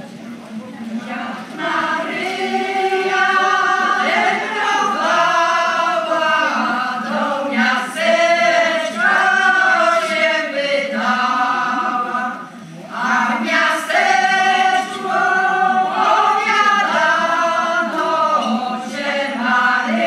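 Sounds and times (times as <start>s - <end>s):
women singing unaccompanied: 0.8s - 20.0s.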